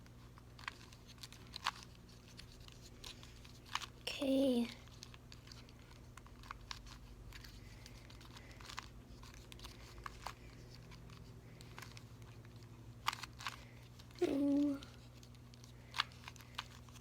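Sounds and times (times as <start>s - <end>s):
puzzle cube clicking and rattling: 0.5s - 4.0s, 4.8s - 17.0s.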